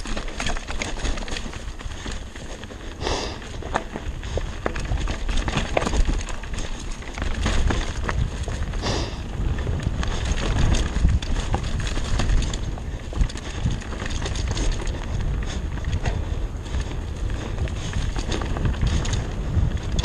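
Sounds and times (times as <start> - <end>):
bike rattling and knocking: 0.0 - 20.0
bike tyres on dirt trail: 0.0 - 20.0
wind rumbling on microphone: 0.0 - 20.0.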